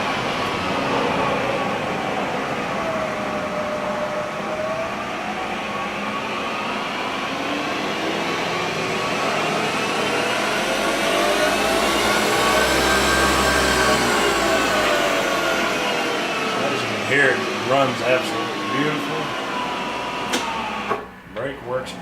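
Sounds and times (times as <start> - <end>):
low hum: 0.0 - 20.2
milling machine motor whine: 0.0 - 21.6.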